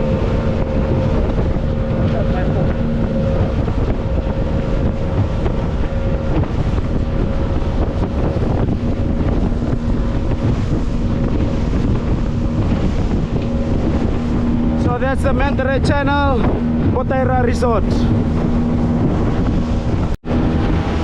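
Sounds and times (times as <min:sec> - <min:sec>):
motorboat engine running: 0:00.0 - 0:21.0
water rushing past: 0:00.0 - 0:21.0
wind buffeting microphone: 0:00.0 - 0:21.0.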